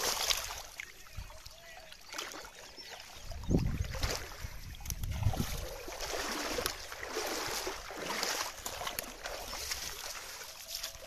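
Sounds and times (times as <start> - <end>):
water splashing and lapping: 0.0 - 11.0.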